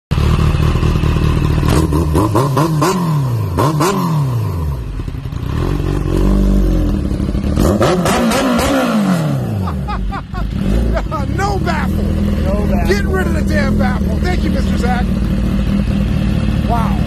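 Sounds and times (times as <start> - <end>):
motorcycle engine revving and idling: 0.1 - 17.0.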